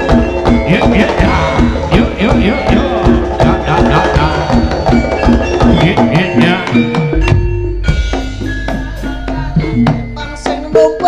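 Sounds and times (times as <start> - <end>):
ringing metallophone notes: 0.0 - 11.0.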